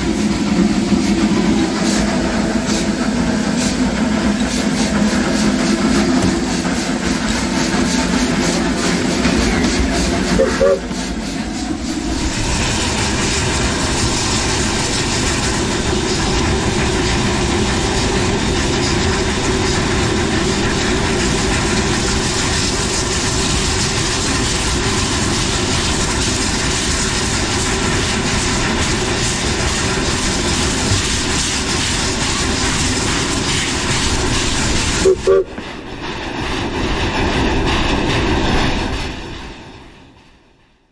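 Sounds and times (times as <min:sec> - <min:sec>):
steam locomotive running: 0:00.0 - 0:40.9.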